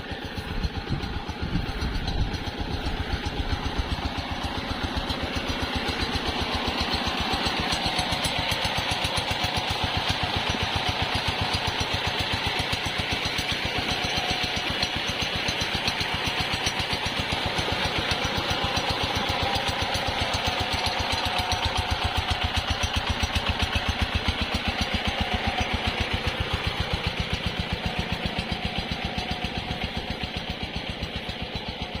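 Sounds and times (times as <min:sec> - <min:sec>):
water pump diesel engine running: 0:00.0 - 0:32.0.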